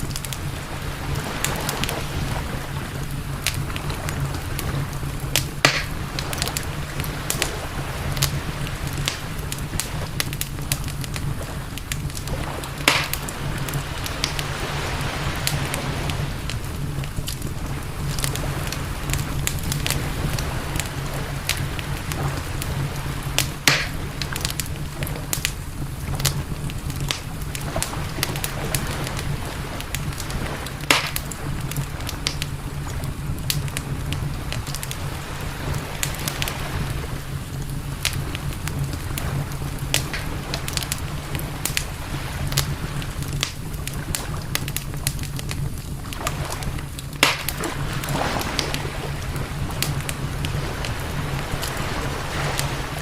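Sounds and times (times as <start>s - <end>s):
campfire crackling and popping: 0.0s - 53.0s
campfire low rumble: 0.0s - 53.0s.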